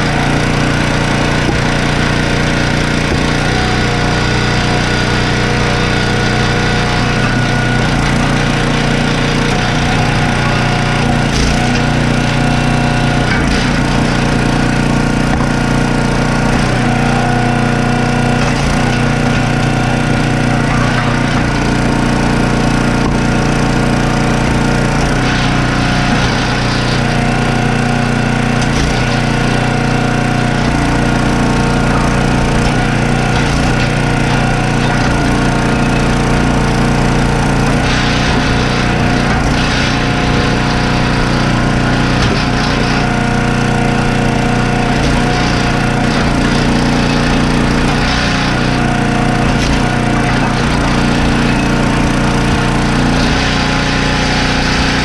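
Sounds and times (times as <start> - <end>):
log splitter engine running: 0.0 - 55.0
wood splitting: 0.0 - 55.0.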